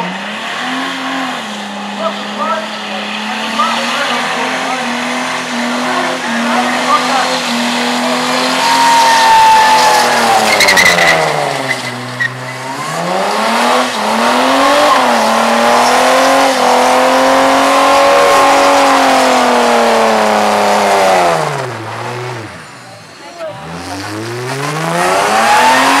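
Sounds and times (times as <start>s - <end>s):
car engine revving high: 0.0s - 26.0s
tyres spinning on track: 0.1s - 26.0s.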